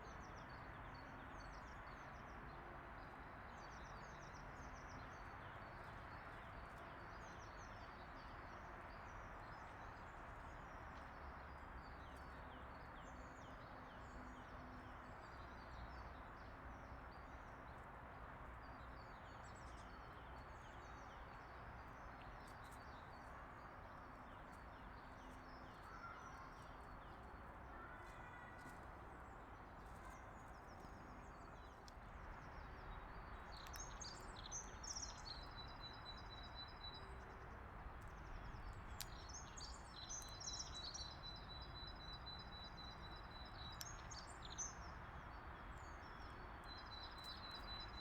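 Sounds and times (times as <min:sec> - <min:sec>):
songbirds chirping: 0:00.0 - 0:48.0
steady outdoor noise: 0:00.0 - 0:48.0.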